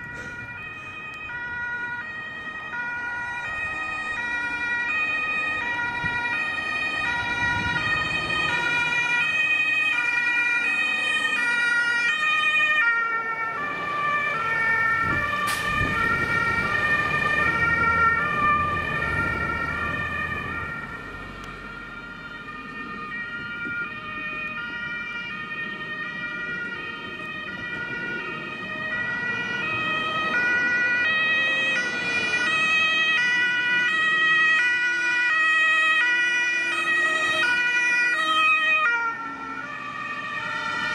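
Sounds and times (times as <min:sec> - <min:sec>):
heavy truck engine rumbling: 0:00.0 - 0:09.9, 0:10.7 - 0:34.2
two-tone emergency sirens: 0:00.0 - 0:40.9.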